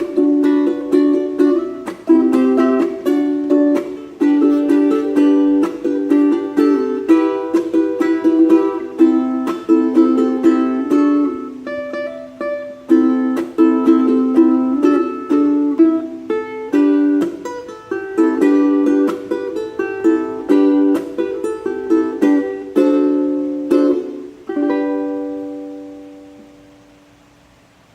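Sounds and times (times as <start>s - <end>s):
ukulele playing a melody: 0.0s - 27.9s.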